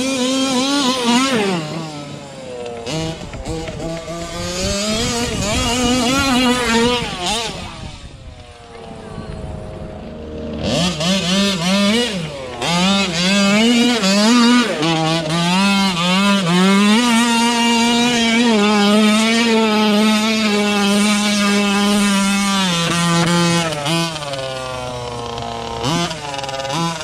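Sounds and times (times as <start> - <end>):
small two-stroke engine revving: 0.0 - 27.0.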